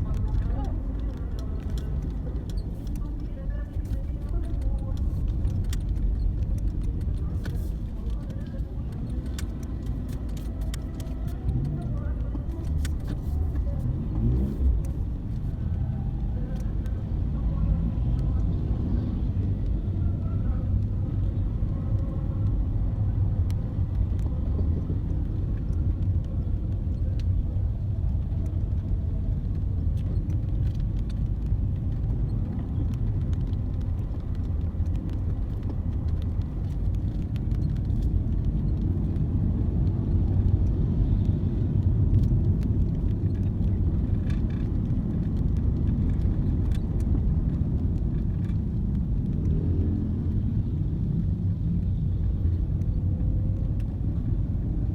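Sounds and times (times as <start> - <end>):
faint ticks and clicks: 0.0 - 18.6, 20.7 - 54.9
low vehicle rumble: 0.0 - 54.9.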